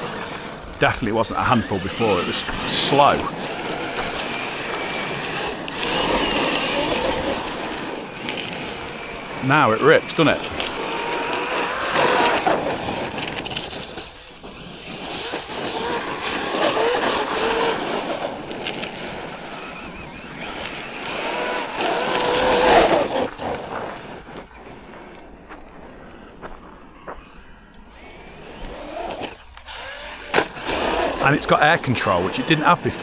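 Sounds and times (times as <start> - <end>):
rc truck motor whining: 0.0 - 25.9, 27.7 - 33.0
tyres crunching on gravel: 0.0 - 33.0.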